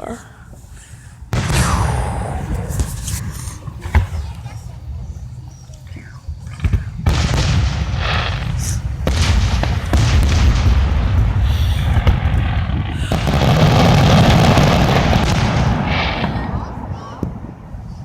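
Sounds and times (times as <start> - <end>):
fireworks booming and crackling: 1.3 - 18.0.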